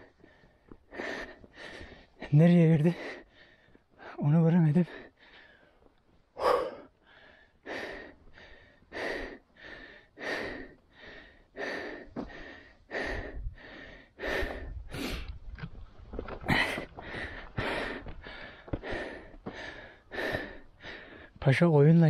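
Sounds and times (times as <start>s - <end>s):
man panting hard: 0.0s - 15.5s, 16.1s - 21.4s.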